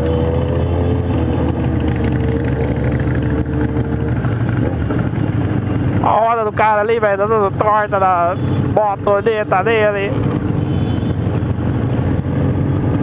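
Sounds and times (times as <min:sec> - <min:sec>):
motorcycle engines droning: 0:00.0 - 0:13.0
wind and road noise: 0:00.0 - 0:13.0.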